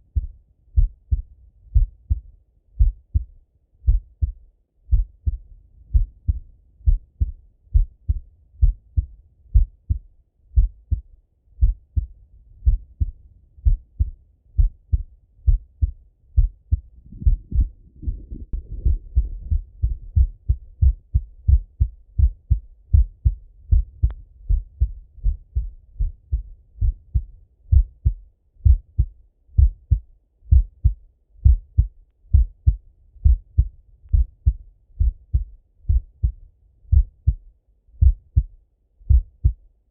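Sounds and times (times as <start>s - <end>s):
heartbeat lub-dub thumps: 0.0s - 37.4s, 38.0s - 39.6s.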